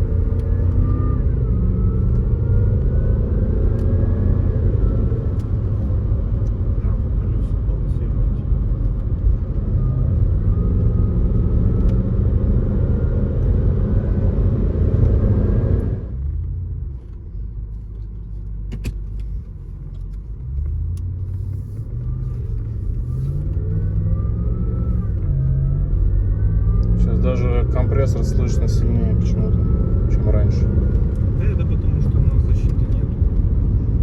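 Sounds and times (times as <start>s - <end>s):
supercharger whine: 0.0s - 17.4s, 20.2s - 34.0s
car engine accelerating: 0.0s - 34.0s
road rumble: 0.0s - 34.0s.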